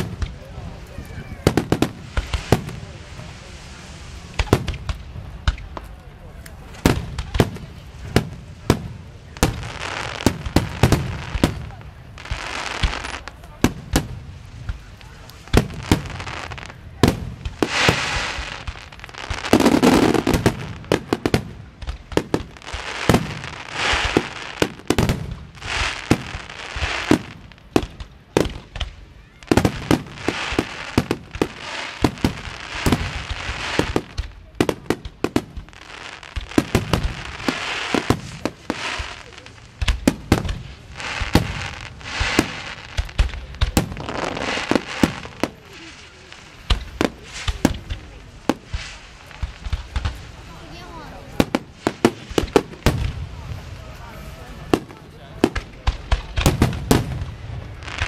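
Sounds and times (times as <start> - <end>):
firecrackers banging and crackling: 0.0 - 58.0
rockets hissing: 0.0 - 58.0.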